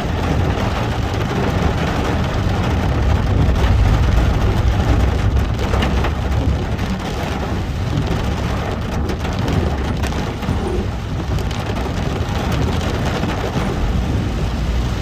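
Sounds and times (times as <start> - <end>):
car engine and tyre rumble: 0.0 - 15.0
heavy rain on a car: 0.0 - 15.0.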